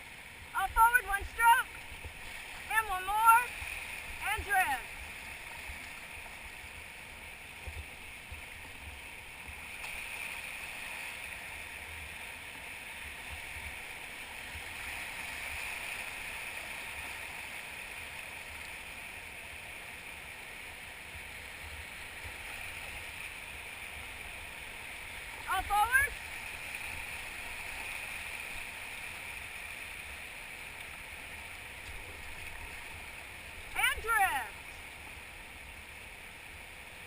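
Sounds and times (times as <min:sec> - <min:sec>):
whitewater river rushing: 0:00.0 - 0:37.0.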